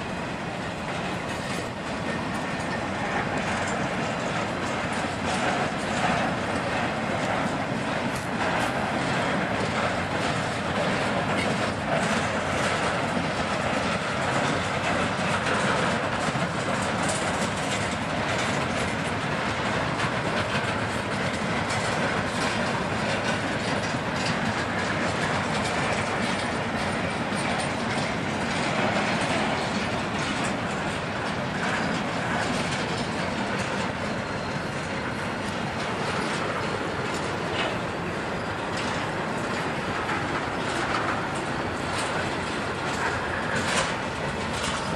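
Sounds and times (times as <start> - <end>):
train wheels clattering over rails: 0.0 - 44.9.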